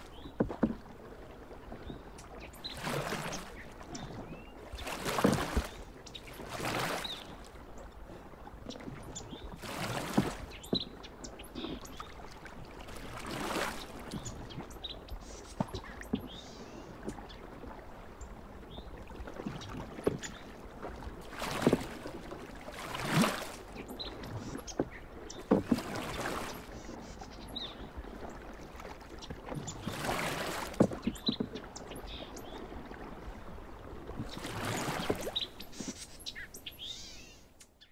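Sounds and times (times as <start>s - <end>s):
paddle splashing in water: 0.0s - 37.5s.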